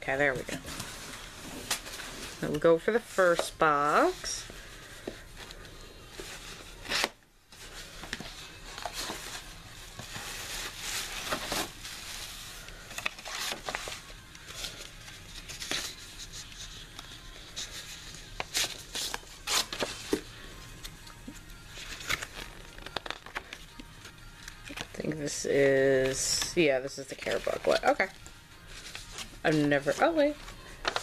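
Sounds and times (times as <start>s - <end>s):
cardboard and paper rustling: 0.3s - 31.0s.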